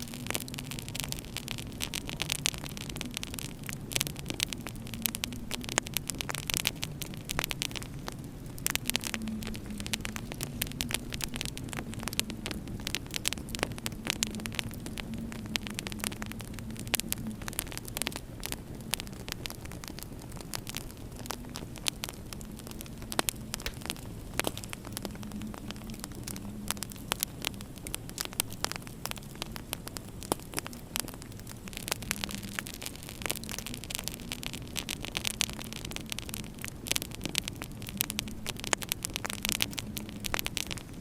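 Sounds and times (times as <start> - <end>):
howling winter wind: 0.0 - 41.0
wood fire crackling: 0.0 - 41.0.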